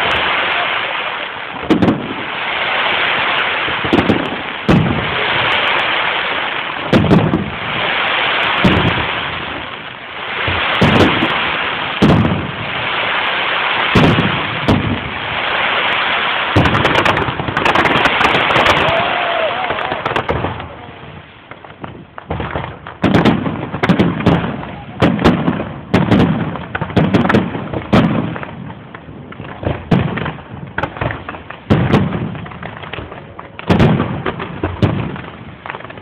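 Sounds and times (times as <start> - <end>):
firework hissing crackle: 0.0 - 36.0.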